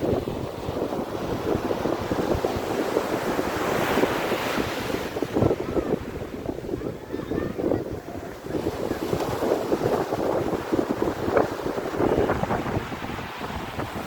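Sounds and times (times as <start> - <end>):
sea waves breaking on shore: 0.0 - 14.0
wind buffeting microphone: 0.0 - 14.0.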